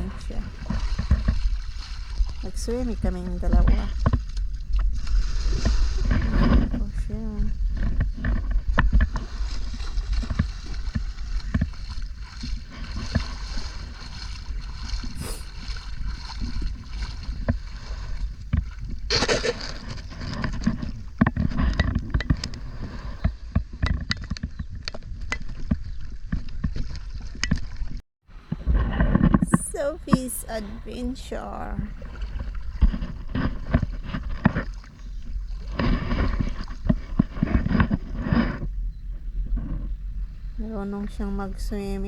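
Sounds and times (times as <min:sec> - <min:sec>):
water splashing around kayak: 0:00.0 - 0:42.0
wind rumble on microphone: 0:00.0 - 0:42.0.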